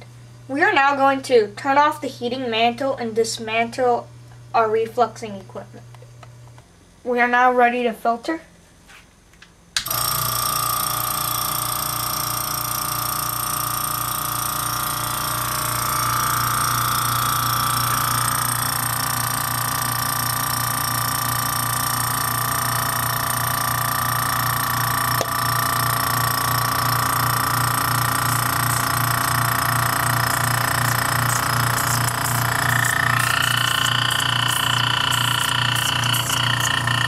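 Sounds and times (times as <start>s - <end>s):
vacuum pump humming and whining: 0.0s - 7.2s, 8.5s - 37.0s.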